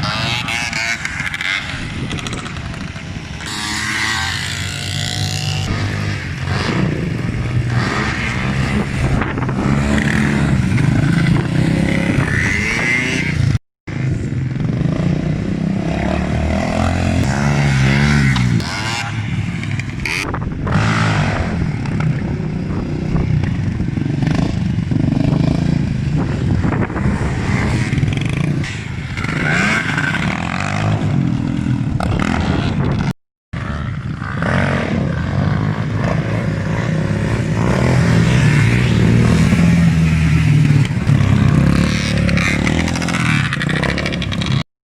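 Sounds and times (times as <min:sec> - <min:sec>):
motorcycle engines revving past: 0:00.0 - 0:44.7.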